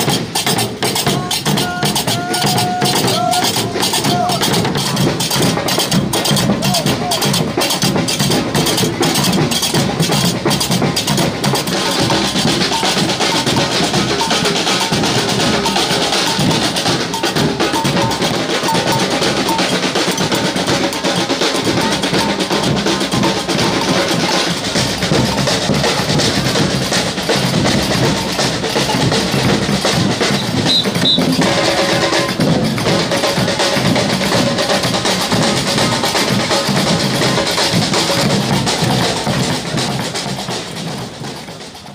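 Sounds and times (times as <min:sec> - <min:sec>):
drums and percussion playing: 0:00.0 - 0:41.9.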